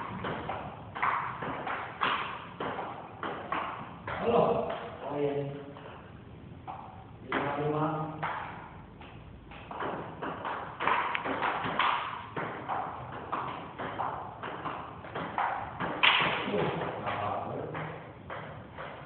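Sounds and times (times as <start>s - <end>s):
table tennis ball clicking off paddles: 0.0s - 4.9s, 8.2s - 19.0s
ball bouncing on table: 0.0s - 5.0s, 6.6s - 19.0s.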